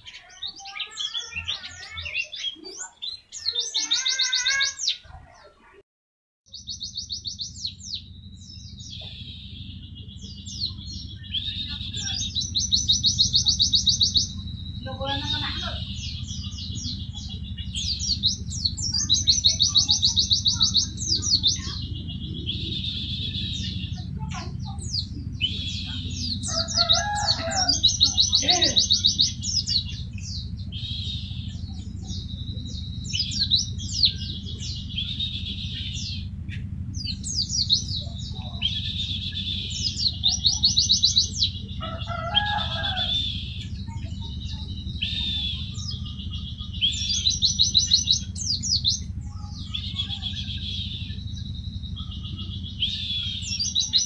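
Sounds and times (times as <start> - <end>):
bird singing fast stuttering trills: 0.0 - 5.8, 6.5 - 54.0
steady low hum: 6.5 - 54.0.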